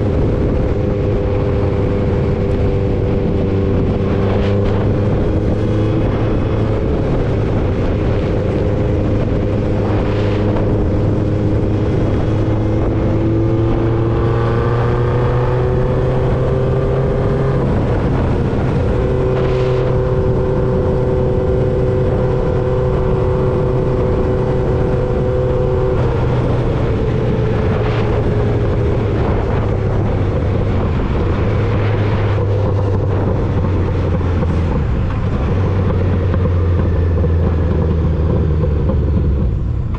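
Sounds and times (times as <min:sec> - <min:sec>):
motorcycle engine running: 0:00.0 - 0:39.9
road noise: 0:00.0 - 0:39.9
wind: 0:00.0 - 0:39.9.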